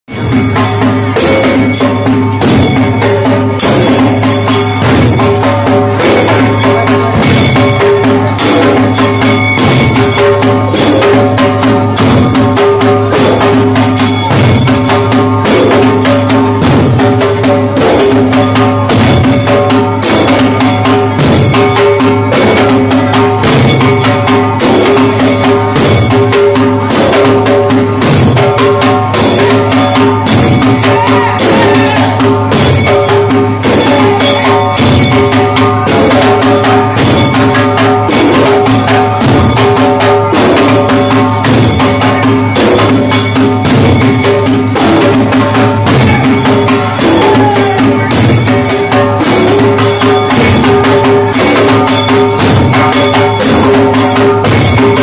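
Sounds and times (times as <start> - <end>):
barrel drums beaten with sticks: 0.1 - 55.0.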